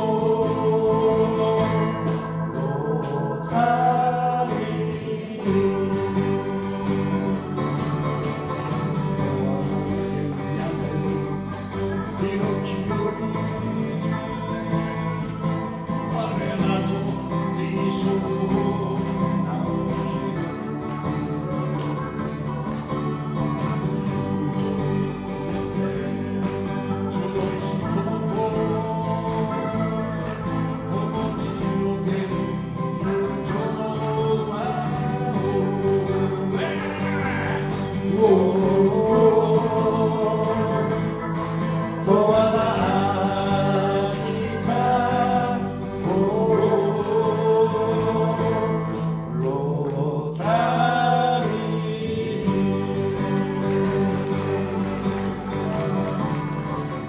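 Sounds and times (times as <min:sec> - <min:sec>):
two men singing: 0:00.0 - 0:07.5, 0:08.9 - 0:22.2, 0:23.6 - 0:54.4
acoustic guitar: 0:00.0 - 0:57.0
electric bass: 0:00.0 - 0:57.0
electric guitar: 0:00.0 - 0:57.0
keyboard: 0:00.0 - 0:57.0.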